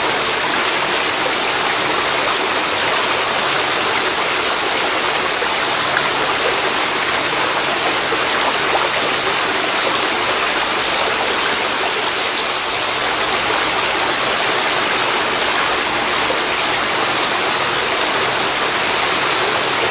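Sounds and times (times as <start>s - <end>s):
waterfall pouring into river: 0.0s - 19.9s.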